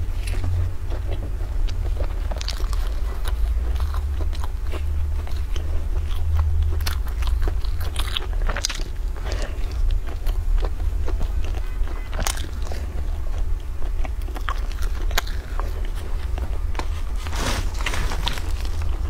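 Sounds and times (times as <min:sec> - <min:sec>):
person chewing with mouth clicks: 0:00.0 - 0:19.0
steady low hum: 0:00.0 - 0:19.0
steady low rumble: 0:00.0 - 0:19.0.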